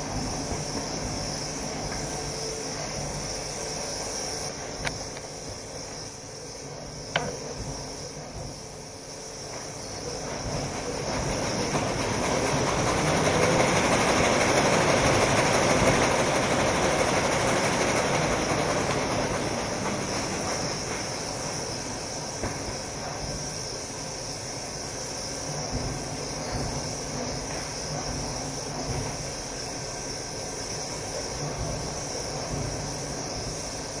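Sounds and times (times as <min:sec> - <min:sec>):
machine running with high hiss: 0:00.0 - 0:34.0.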